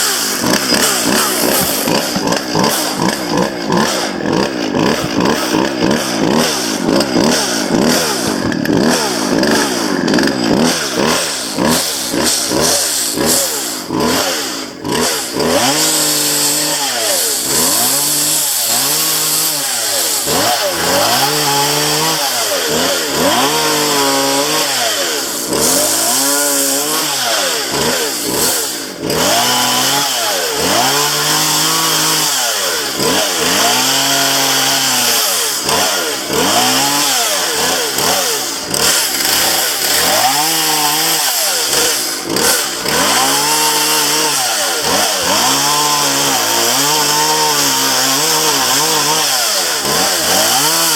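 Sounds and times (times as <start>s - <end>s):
chainsaw cutting branches: 0.0s - 50.9s.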